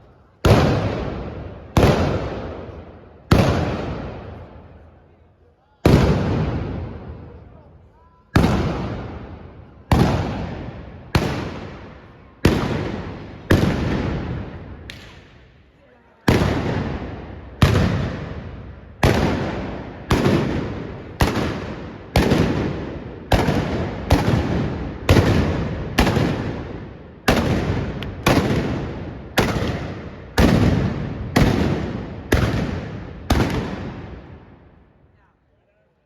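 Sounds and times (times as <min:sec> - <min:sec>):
gun blasts with long echo: 0:00.4 - 0:04.8, 0:05.8 - 0:07.6, 0:08.4 - 0:15.6, 0:16.3 - 0:35.0.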